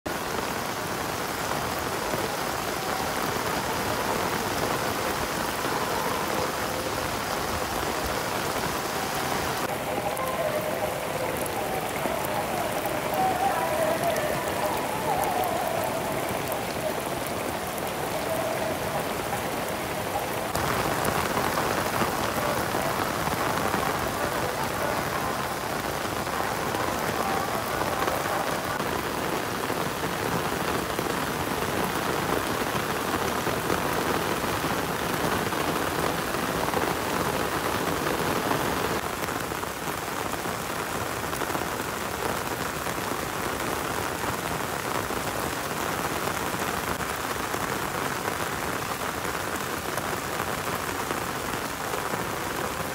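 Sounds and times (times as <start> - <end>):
heavy rain splashing on pavement: 0.0 - 52.9.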